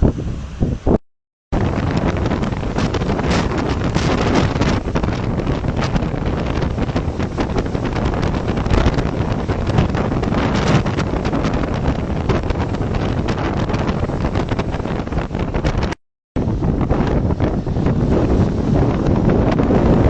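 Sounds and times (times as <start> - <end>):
strong wind blasting microphone: 0.0 - 20.0.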